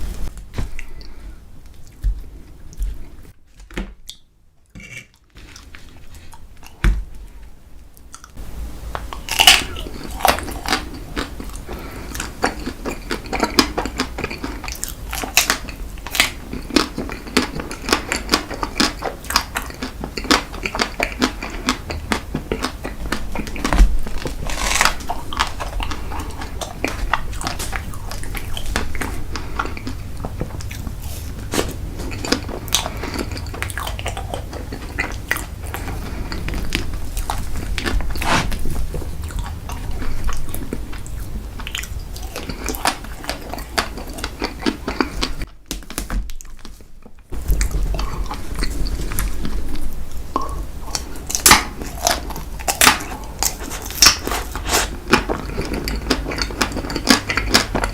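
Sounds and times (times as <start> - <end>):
crunchy chewing: 9.0 - 45.5, 46.4 - 57.9.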